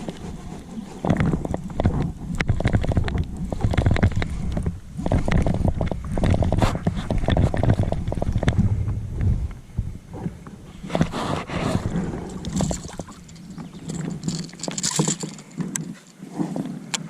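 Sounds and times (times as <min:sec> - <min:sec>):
water sloshing against kayak hull: 0:00.0 - 0:17.0
wind buffeting microphone: 0:00.0 - 0:17.0.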